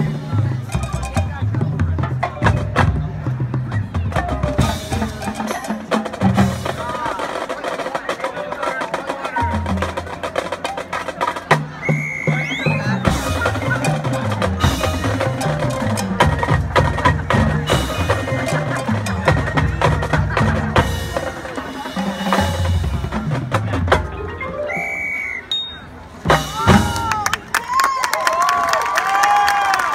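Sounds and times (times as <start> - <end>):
mallet percussion: 0.0 - 27.4
marching band playing: 0.0 - 27.8.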